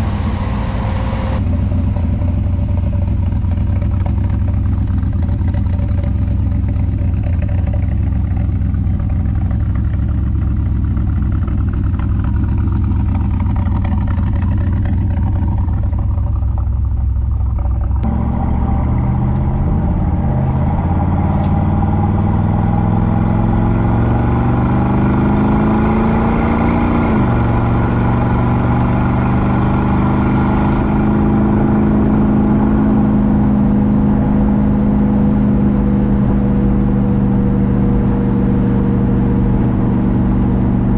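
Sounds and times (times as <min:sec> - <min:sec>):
car engine pulling on road: 0:00.0 - 0:40.9.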